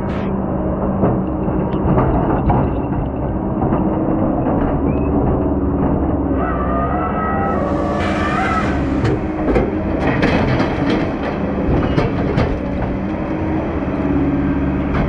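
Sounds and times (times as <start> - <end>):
machinery knocks and clanks: 0.0 - 6.3, 7.6 - 15.0
heavy diesel machinery running: 0.0 - 15.0.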